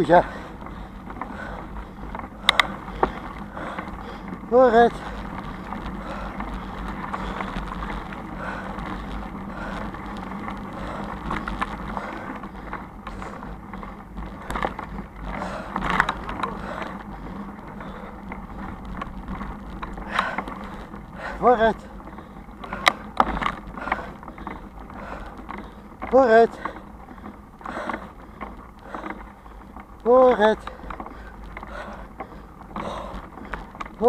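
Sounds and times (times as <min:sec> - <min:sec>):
bicycle frame rattling: 0:00.0 - 0:34.0
bicycle tyres crunching on dirt: 0:00.0 - 0:34.0
low rumble: 0:00.0 - 0:34.0.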